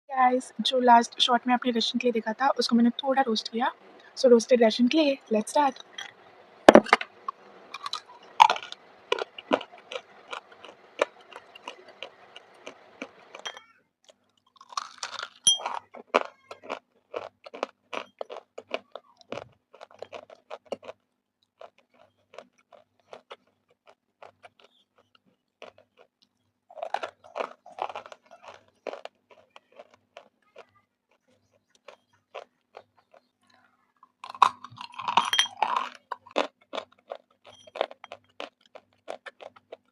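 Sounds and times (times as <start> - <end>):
crunchy biting and chewing: 5.7 - 13.5, 14.1 - 39.9.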